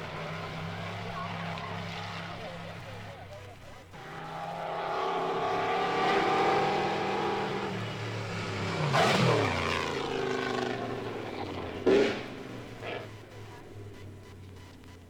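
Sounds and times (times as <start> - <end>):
racing car passing by: 0.0 - 15.0.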